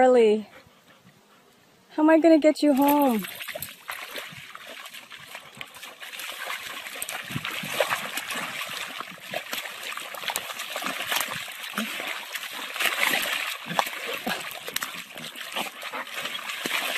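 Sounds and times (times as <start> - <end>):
dog splashing in mud: 2.7 - 16.9.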